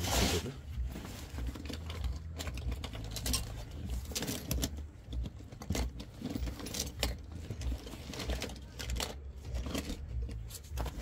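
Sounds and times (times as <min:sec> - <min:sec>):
low steady hum: 0:00.0 - 0:11.0
small metal parts clicking: 0:01.5 - 0:11.0.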